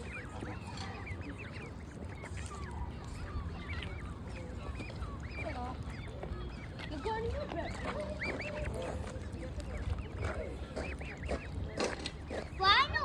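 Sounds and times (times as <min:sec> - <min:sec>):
lower bird calls: 0:00.0 - 0:12.9
waterfowl chicks peeping: 0:00.0 - 0:13.0.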